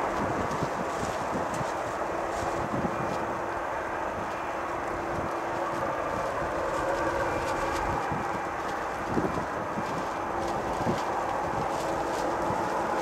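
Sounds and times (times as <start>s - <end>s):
jet engines at takeoff thrust: 0.0s - 13.0s.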